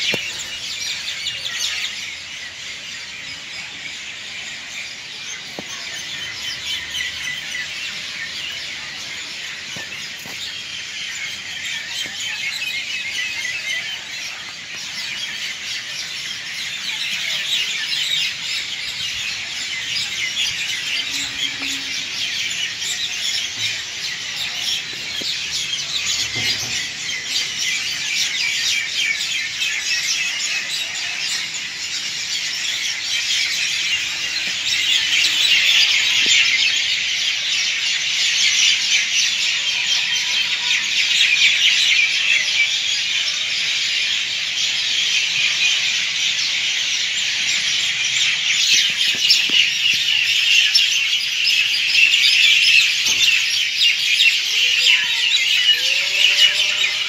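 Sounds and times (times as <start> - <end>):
flock of birds chirping: 0.0 - 57.0.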